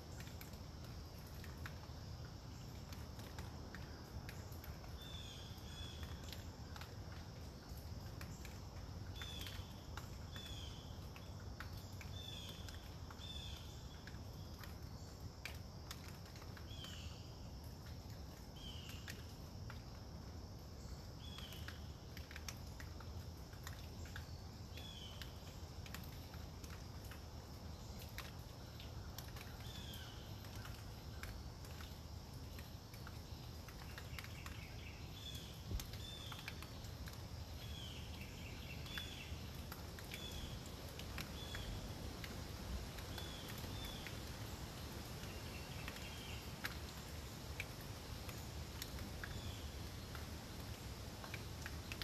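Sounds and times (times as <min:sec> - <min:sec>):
low wind rush through woods: 0:00.0 - 0:52.0
water dripping from leaves: 0:00.0 - 0:52.0.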